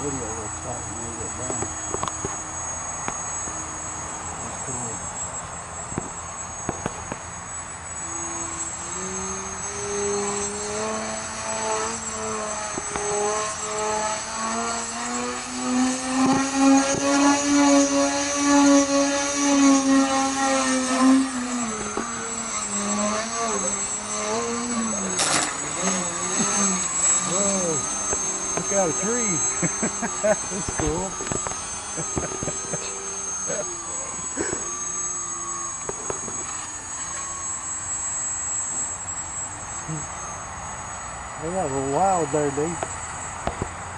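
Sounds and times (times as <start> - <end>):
model plane motor whine: 0.0 - 43.9.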